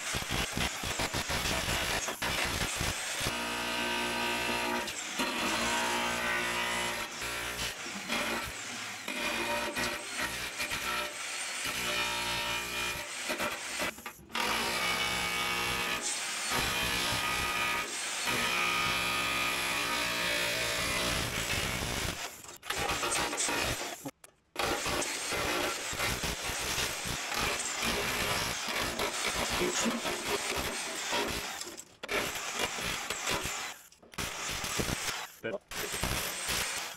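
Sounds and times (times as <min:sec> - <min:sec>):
electric chisel hammering: 0:00.0 - 0:36.9.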